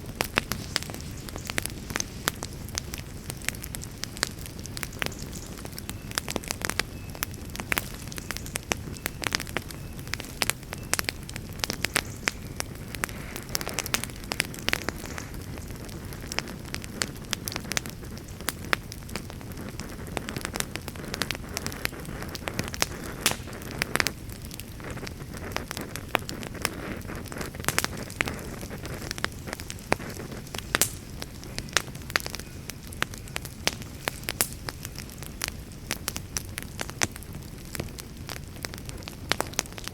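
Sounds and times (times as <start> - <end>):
campfire rumbling: 0.0 - 39.9
fire crackles and pops: 0.0 - 39.9.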